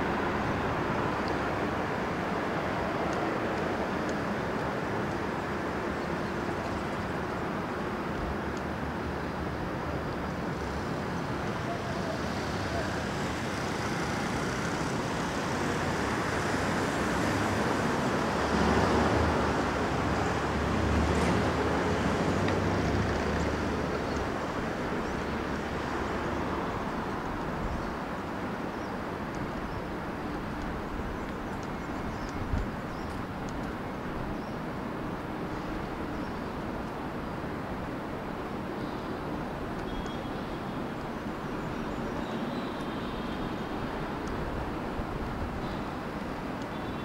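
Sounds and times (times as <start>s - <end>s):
city road traffic: 0.0s - 47.0s.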